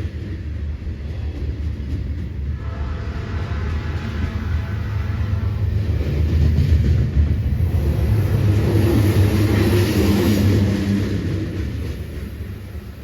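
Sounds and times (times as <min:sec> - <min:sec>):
freight train low rumble: 0:00.0 - 0:13.0.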